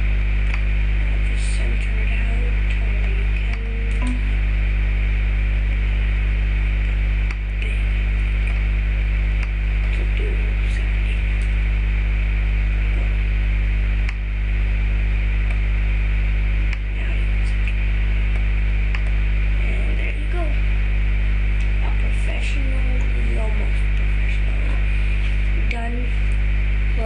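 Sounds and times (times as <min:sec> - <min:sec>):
electrical mains hum: 0:00.0 - 0:27.0
static hiss: 0:00.0 - 0:27.0.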